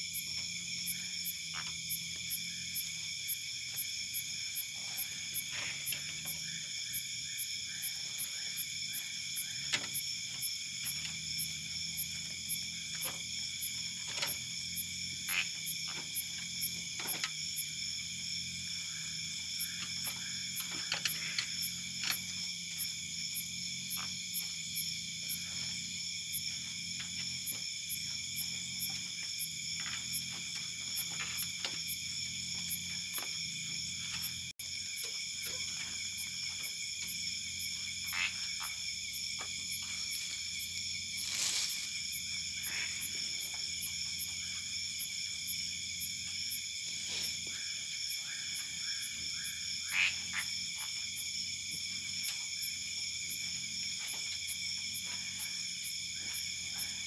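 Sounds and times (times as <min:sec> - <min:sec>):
insects and frogs trilling: 0:00.0 - 0:57.0.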